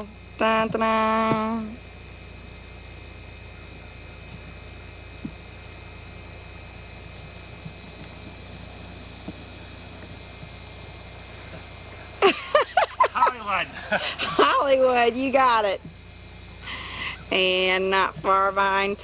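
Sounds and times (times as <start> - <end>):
crickets and insects chirping: 0.0 - 19.0.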